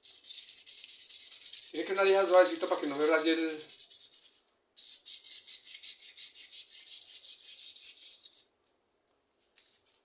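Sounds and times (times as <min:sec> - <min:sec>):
sandpaper rubbing on steel shaft: 0:00.0 - 0:08.5.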